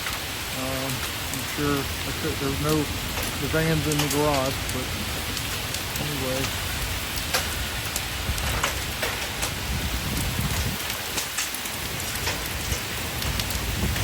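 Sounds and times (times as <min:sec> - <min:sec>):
hailstones clattering: 0:00.0 - 0:14.0
hailstones striking hard surfaces: 0:00.0 - 0:14.0.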